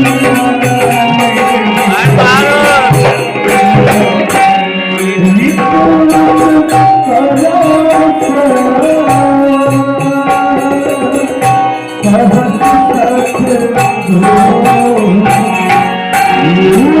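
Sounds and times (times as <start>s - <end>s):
devotional song melody: 0.0s - 17.0s
steady drum beat: 0.0s - 17.0s.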